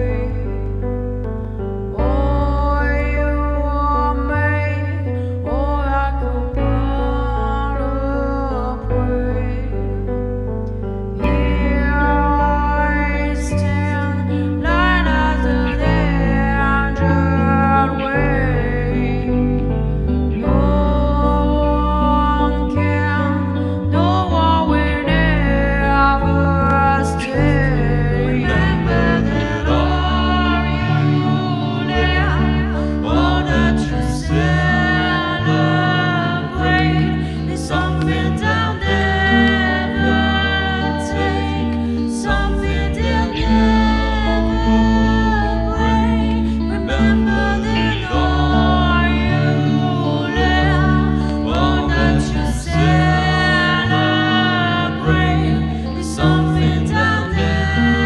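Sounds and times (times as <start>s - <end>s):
song with sung vocals: 0.0s - 58.0s.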